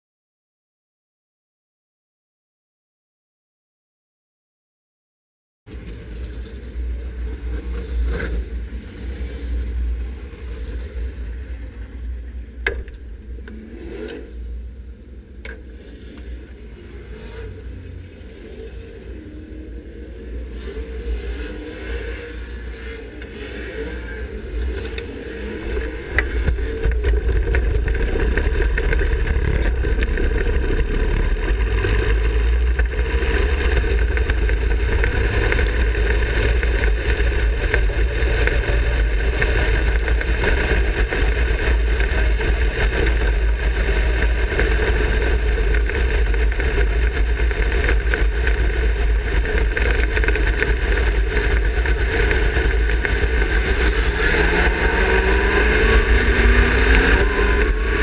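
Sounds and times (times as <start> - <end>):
race car engine running: 5.7 - 58.0.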